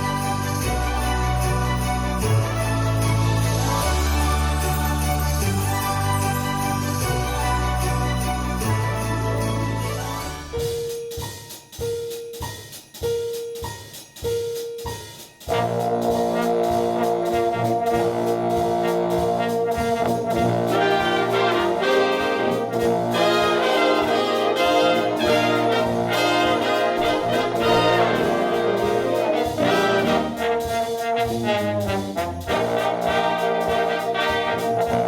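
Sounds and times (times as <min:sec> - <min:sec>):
brass band playing: 0:00.0 - 0:11.0, 0:15.5 - 0:35.0.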